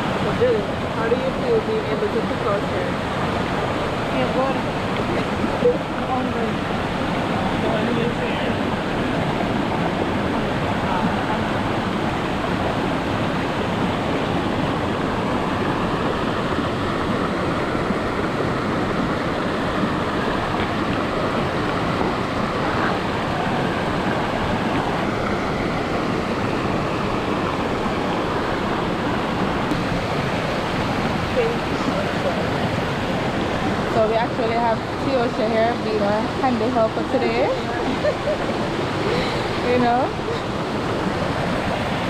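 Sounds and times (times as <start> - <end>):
river rushing over rocks: 0.0 - 42.0.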